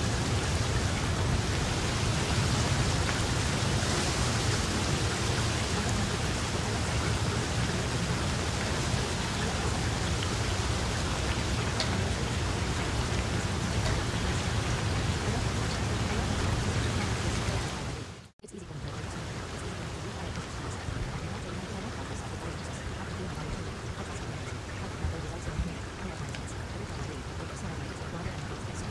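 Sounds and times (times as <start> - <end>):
rain hissing: 0.0 - 28.9.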